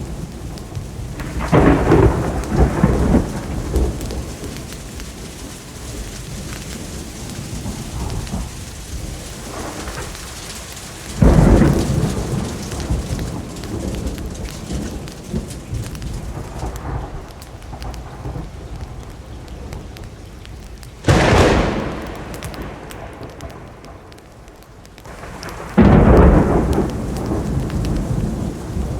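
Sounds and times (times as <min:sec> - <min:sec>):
steady rain: 0:00.0 - 0:28.9
thunder cracks: 0:00.0 - 0:28.9.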